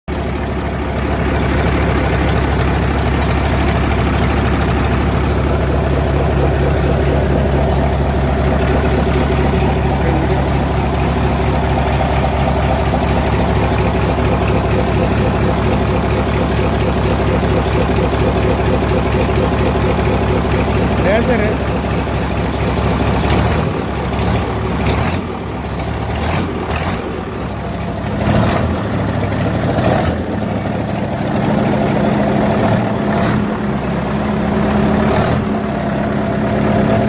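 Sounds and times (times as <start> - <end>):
diesel engine idling: 0.1 - 37.0.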